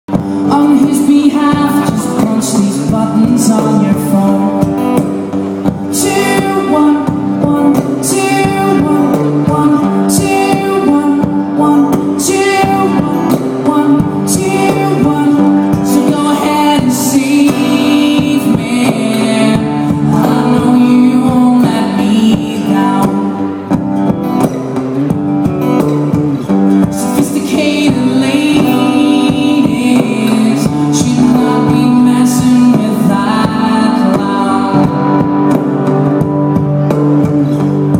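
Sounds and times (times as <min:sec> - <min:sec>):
person singing: 0:00.1 - 0:23.8, 0:26.0 - 0:37.9
rock band playing live: 0:00.1 - 0:37.9.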